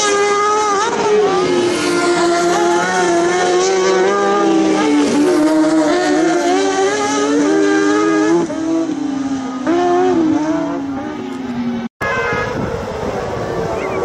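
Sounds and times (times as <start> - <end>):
high-revving racing engines: 0.0 - 14.0.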